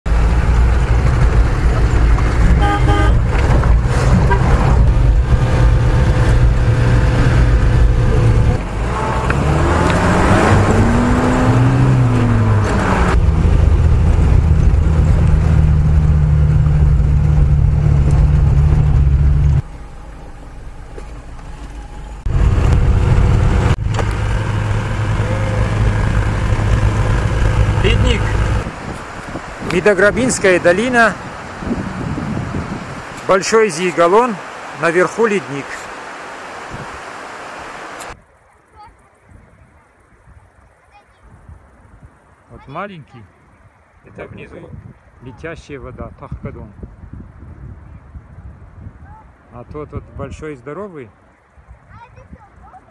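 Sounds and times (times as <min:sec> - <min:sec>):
off-road vehicle engine: 0:00.0 - 0:46.8
tyres on gravel road: 0:00.0 - 0:52.9.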